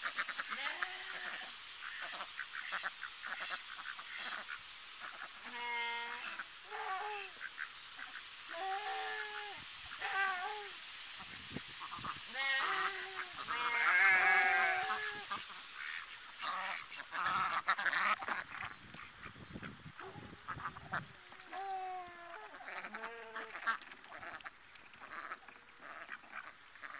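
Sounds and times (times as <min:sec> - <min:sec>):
ducks quacking: 0:00.0 - 0:10.3, 0:11.2 - 0:21.7, 0:22.4 - 0:26.9.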